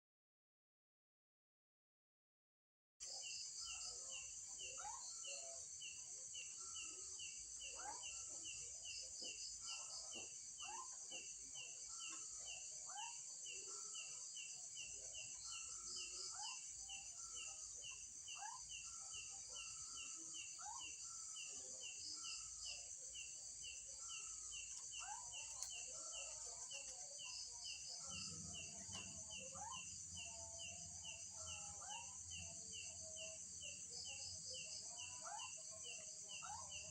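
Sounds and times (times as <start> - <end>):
cricket chirping: 3.0 - 36.9.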